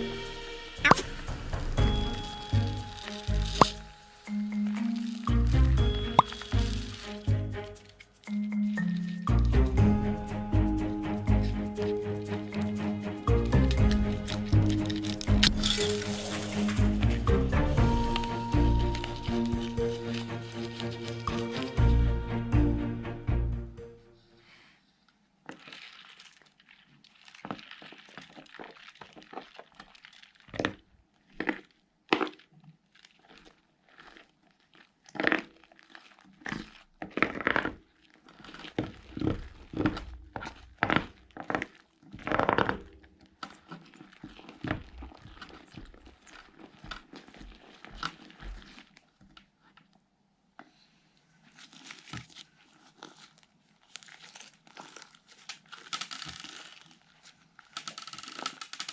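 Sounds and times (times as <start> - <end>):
slime crackling and crinkling: 0.0 - 9.8, 11.2 - 21.8, 25.2 - 50.0, 51.2 - 58.9.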